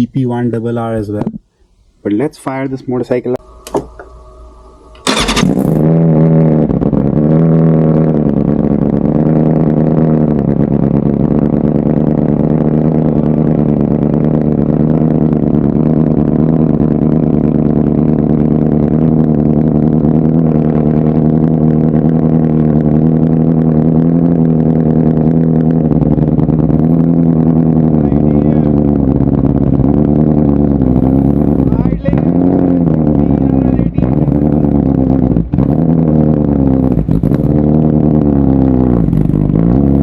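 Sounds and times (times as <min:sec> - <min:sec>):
motorcycle engine starting and idling: 0:00.0 - 0:40.0.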